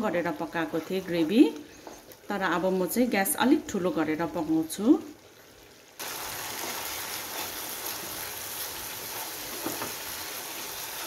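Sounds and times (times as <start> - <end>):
gravy sizzling and bubbling: 0.0 - 11.0.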